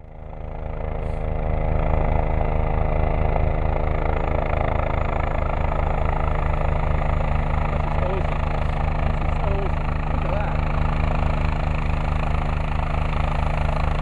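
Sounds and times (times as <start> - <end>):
helicopter rotor beating: 0.0 - 14.0.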